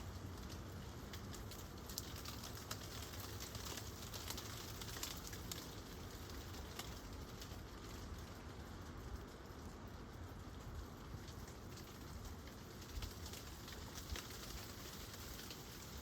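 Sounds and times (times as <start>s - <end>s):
raindrops ticking on surface: 0.0s - 16.0s
steady rain hiss: 0.0s - 16.0s.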